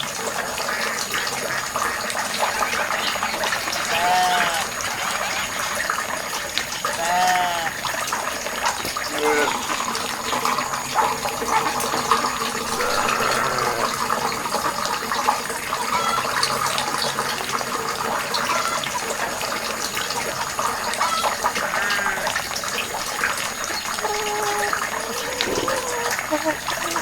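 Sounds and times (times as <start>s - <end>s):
bubbling gurgles: 0.0s - 27.0s
water pouring into a pond: 0.0s - 27.0s.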